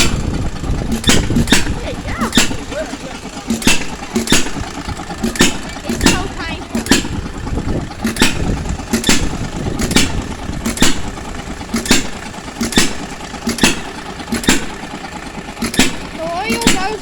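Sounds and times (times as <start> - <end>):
hit-and-miss engine banging: 0.0 - 17.0.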